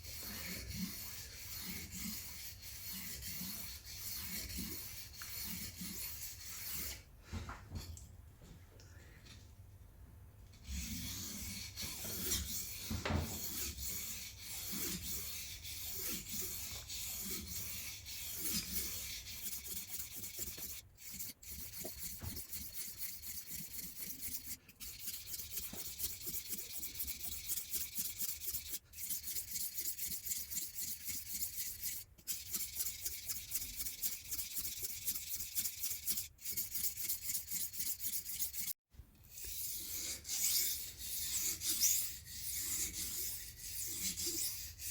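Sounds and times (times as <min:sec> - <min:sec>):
knife rasping on sharpener: 0:00.0 - 0:07.0, 0:10.6 - 0:44.9.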